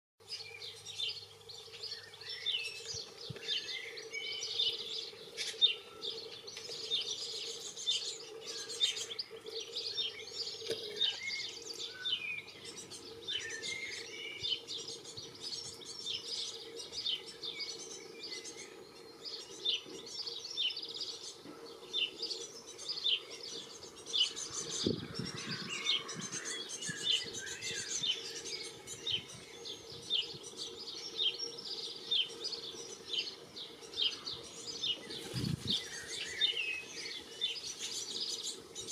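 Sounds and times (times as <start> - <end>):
small birds chirping: 0.2 - 38.9.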